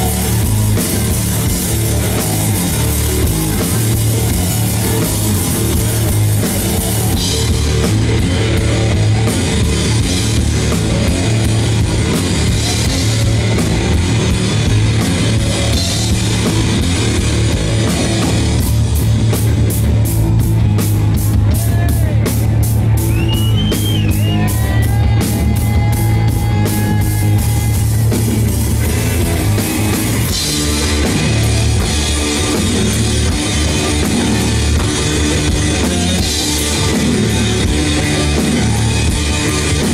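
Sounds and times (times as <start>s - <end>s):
distorted electric guitar: 0.0s - 39.9s
drum kit: 0.0s - 39.9s.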